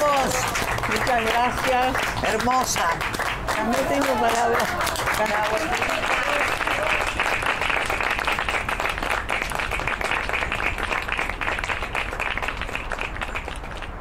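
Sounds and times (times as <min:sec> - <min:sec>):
small group applauding: 0:00.0 - 0:14.0.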